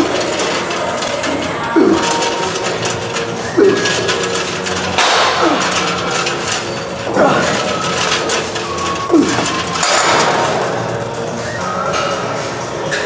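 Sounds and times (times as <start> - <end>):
cable and weight-stack rush: 0.0 - 13.0
cable machine squeak: 0.0 - 13.0.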